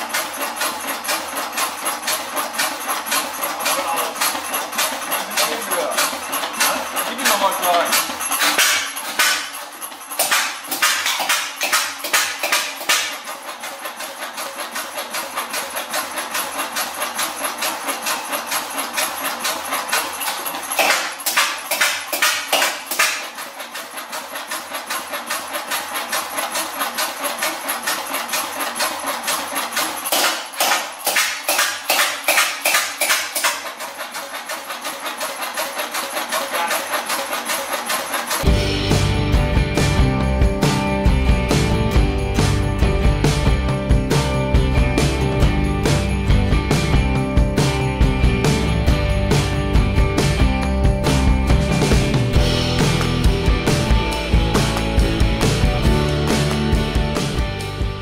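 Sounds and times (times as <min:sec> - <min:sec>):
diesel engine rhythmic beat: 0:00.0 - 0:58.0.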